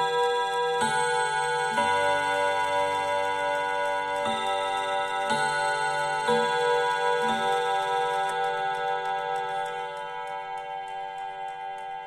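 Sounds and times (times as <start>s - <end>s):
clock chiming on gong rods: 0.0s - 12.0s.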